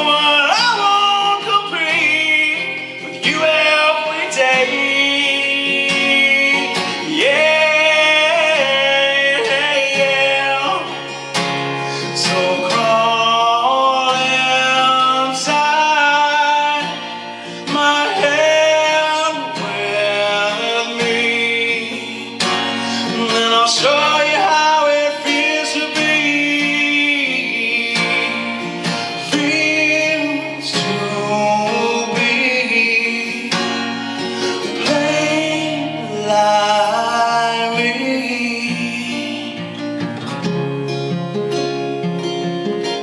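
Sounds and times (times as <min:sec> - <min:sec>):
man singing: 0:00.0 - 0:40.2
acoustic guitar: 0:00.0 - 0:43.0.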